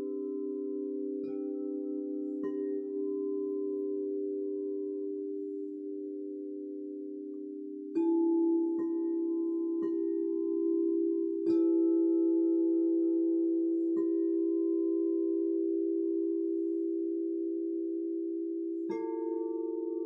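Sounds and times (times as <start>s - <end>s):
singing bowls ringing: 0.0s - 20.0s.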